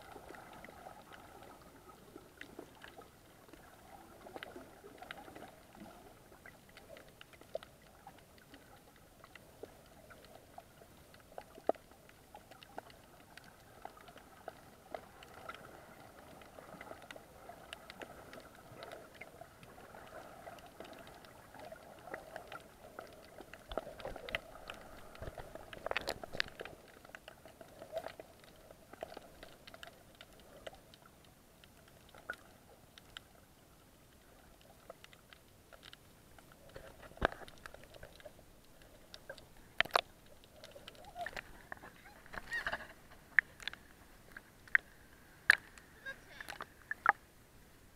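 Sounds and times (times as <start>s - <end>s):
faint clicks and crackles: 0.0s - 47.8s
low underwater hum: 0.0s - 47.9s.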